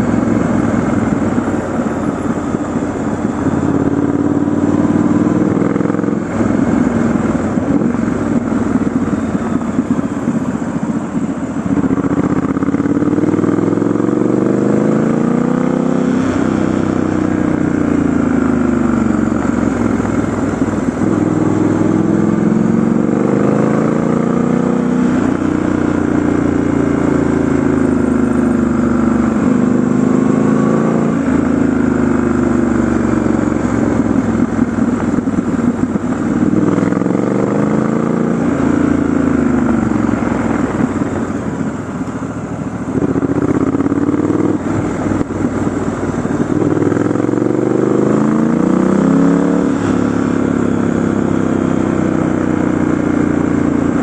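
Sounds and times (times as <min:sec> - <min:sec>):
motorcycle engine revving while riding: 0:00.0 - 0:54.0.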